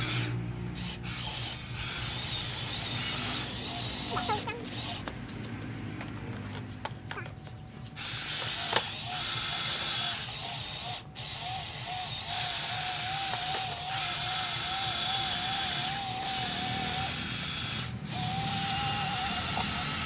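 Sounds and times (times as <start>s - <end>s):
toy truck electric motors whirring: 0.0s - 5.7s, 6.3s - 20.0s.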